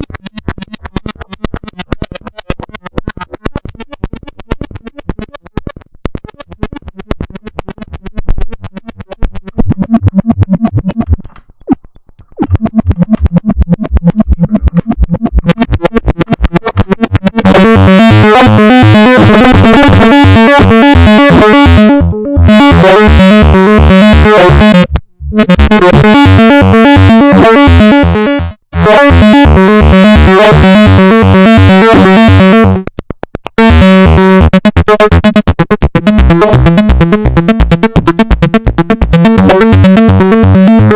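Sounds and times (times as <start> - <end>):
synthesizer arpeggio: 0.0 - 40.9.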